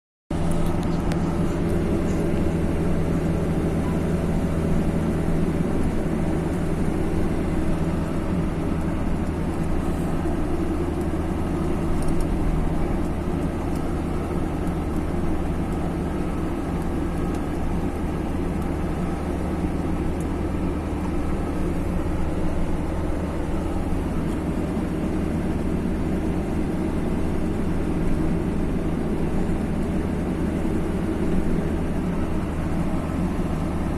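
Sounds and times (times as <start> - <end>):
vehicle engine and road noise: 0.3 - 33.9.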